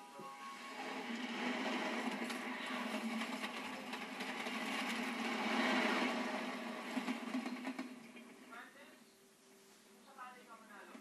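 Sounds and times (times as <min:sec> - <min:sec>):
train rumbling along rails: 0:00.0 - 0:08.9.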